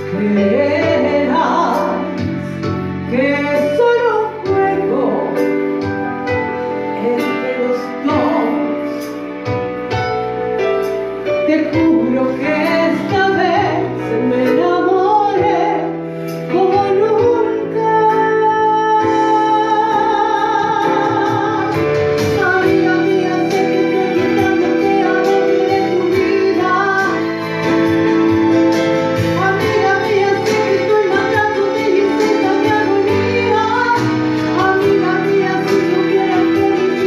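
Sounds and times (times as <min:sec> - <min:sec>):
woman singing a slow ballad: 0:00.0 - 0:09.6, 0:11.2 - 0:37.0
instrumental backing music: 0:00.0 - 0:37.0.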